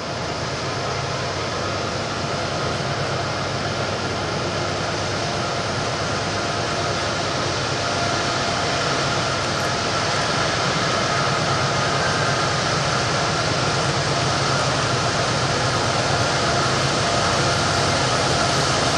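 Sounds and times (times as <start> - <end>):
freight train rumbling: 0.0 - 18.9.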